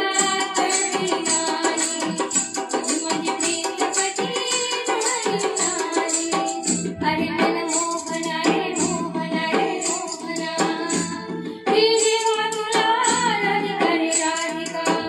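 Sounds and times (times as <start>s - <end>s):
backing music with drum beat: 0.0s - 15.0s
woman singing into microphone: 0.0s - 15.0s.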